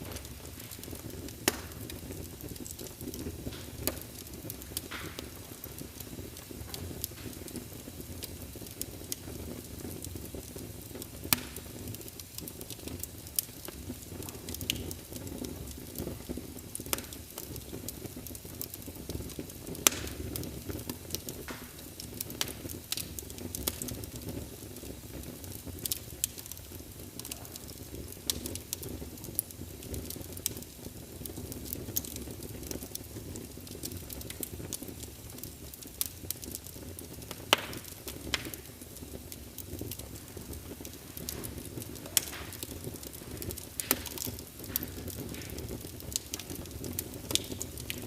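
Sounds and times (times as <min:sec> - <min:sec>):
fire sharp pops: 0:00.0 - 0:48.0
flame rumble: 0:00.0 - 0:48.0.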